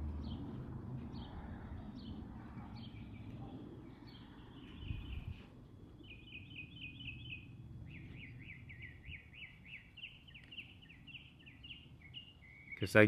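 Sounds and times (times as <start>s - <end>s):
low outdoor rumble: 0.0s - 12.4s
songbird singing: 0.0s - 13.0s.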